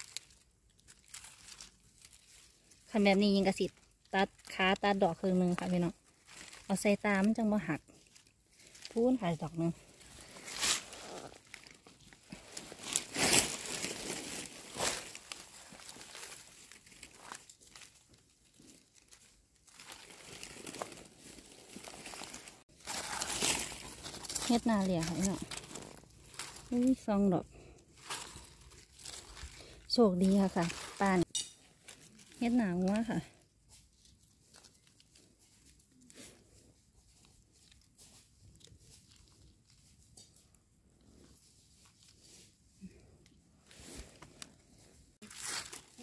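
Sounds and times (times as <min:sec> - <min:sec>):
dry leaves rustling under hands: 0:00.0 - 0:46.0.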